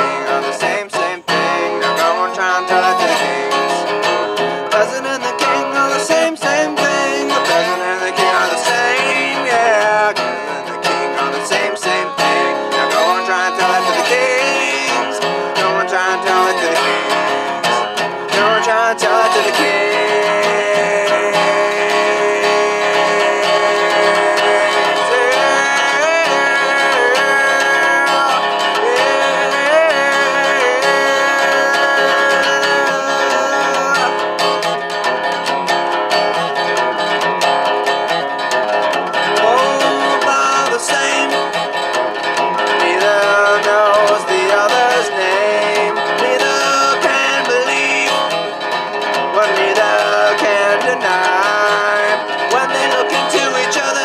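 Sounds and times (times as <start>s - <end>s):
man singing: 0.0s - 34.7s, 39.0s - 54.0s
resonator guitar strumming: 0.0s - 54.0s.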